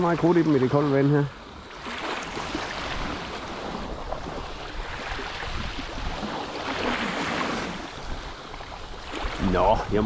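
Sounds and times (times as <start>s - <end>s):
small waves lapping: 0.0s - 10.0s
wind noise: 1.6s - 10.0s.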